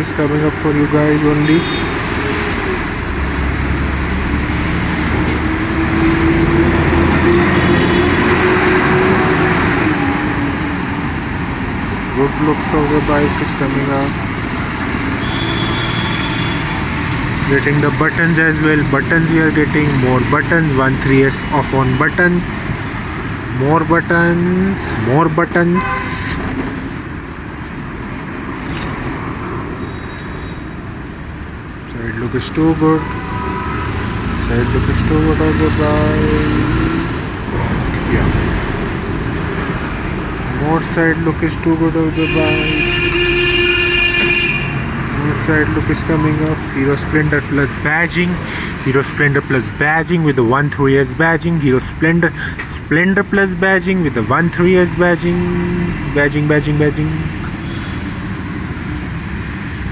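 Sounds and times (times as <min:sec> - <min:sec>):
distant traffic rumble: 0:00.0 - 0:59.9
road noise: 0:00.0 - 0:59.9
vehicle engine humming: 0:00.0 - 0:59.9.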